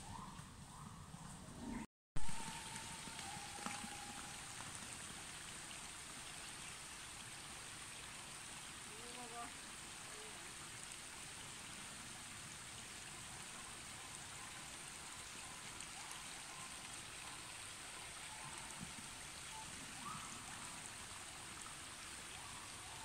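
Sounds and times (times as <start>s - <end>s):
outdoor background hiss: 2.2s - 23.0s.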